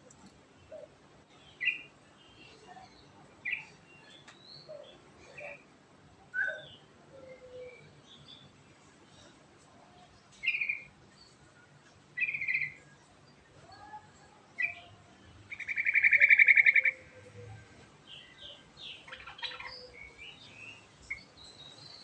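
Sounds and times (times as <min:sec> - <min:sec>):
bird singing clear notes and trill: 0:00.0 - 0:22.0.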